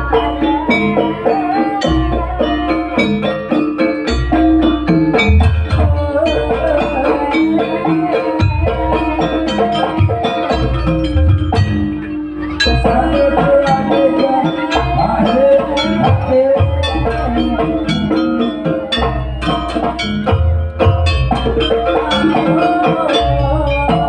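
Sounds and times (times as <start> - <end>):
drums: 0.0 - 24.0
gamelan ensemble music: 0.0 - 24.0
pitch-bending melody line: 0.0 - 24.0.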